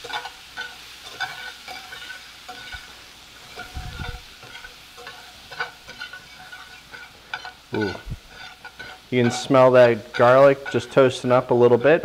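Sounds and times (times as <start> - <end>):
butter and garlic sizzling in pan: 0.0 - 12.0
utensil scraping pan: 0.0 - 12.0.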